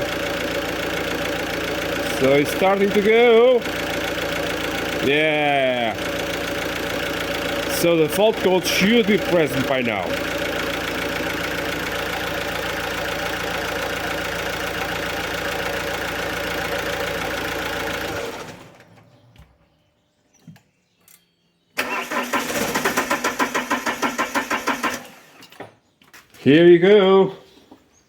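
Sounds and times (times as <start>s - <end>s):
starter motor cranking: 0.0s - 19.0s, 21.8s - 25.6s
diesel engine running: 0.0s - 19.2s, 21.8s - 25.4s.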